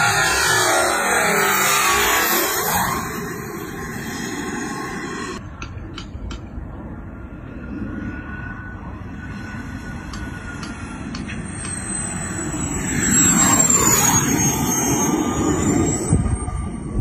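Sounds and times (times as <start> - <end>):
model jet engine whine: 0.0 - 17.0.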